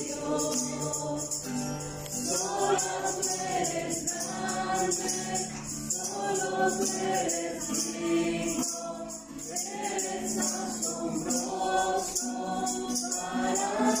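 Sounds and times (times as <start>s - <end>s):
group singing worship song: 0.0s - 14.0s
shaken hand percussion: 0.0s - 14.0s.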